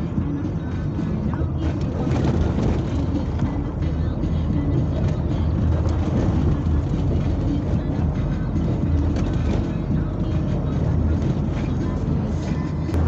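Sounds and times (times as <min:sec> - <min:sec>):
vehicle driving low rumble: 0:00.0 - 0:13.0.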